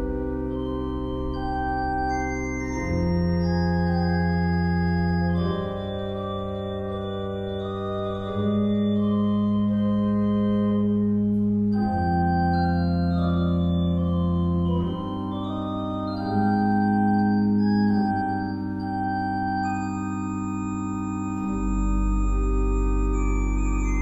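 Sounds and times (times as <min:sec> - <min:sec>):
pipe organ chords: 0:00.0 - 0:24.0.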